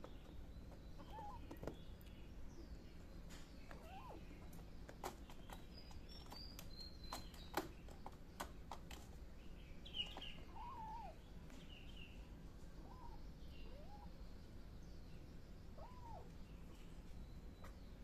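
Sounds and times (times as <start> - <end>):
faint bird chirps: 0.0 - 7.7, 9.4 - 18.0.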